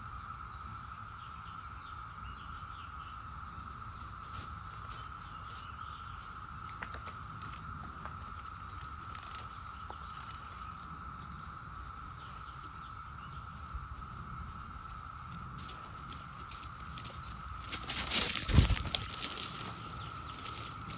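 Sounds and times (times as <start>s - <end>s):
cicadas droning: 0.0s - 20.9s.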